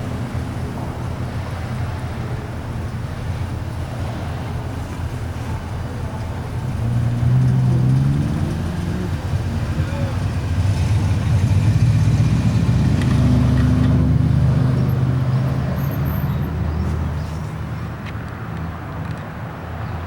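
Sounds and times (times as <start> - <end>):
train engine drone: 0.0 - 18.0.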